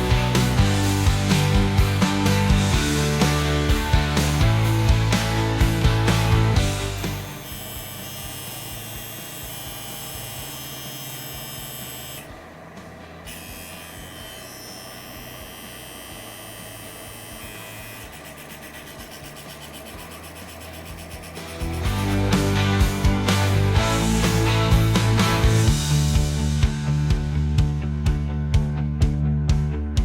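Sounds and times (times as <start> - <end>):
tattoo pen motor buzzing: 0.0 - 12.4, 13.2 - 25.5.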